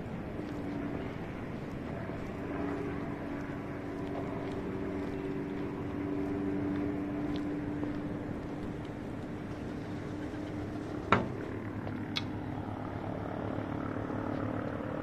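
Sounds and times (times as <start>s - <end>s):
background rush: 0.0s - 15.0s
motor droning: 0.0s - 15.0s.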